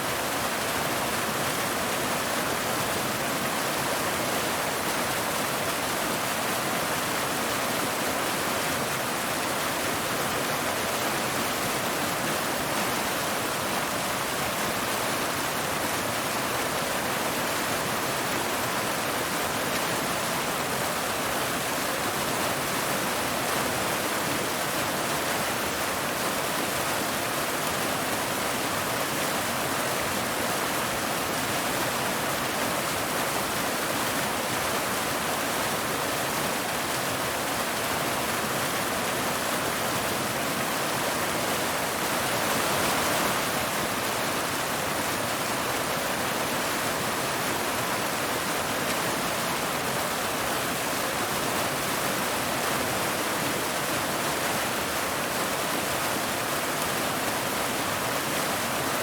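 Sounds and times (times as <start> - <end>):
waterfall pouring over rocks: 0.0 - 59.0.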